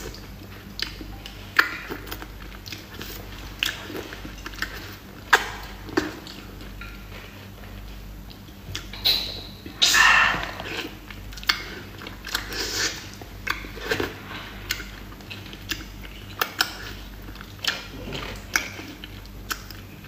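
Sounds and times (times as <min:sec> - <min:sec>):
wet mouth eating sounds: 0:00.0 - 0:20.0.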